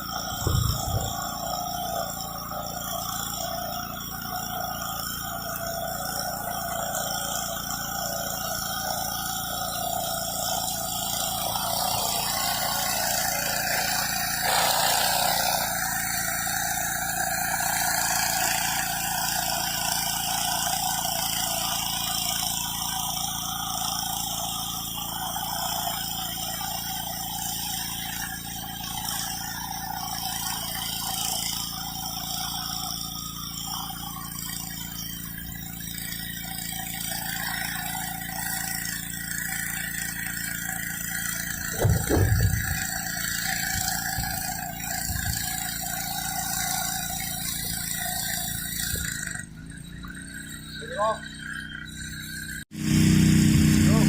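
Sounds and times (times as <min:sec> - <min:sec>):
pressure washer engine running: 0:00.0 - 0:54.0
water spraying concrete: 0:00.0 - 0:54.0.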